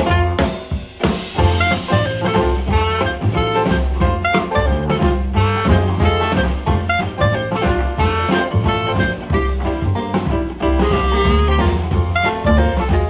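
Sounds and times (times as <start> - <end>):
jazz music through speaker: 0.0 - 13.0.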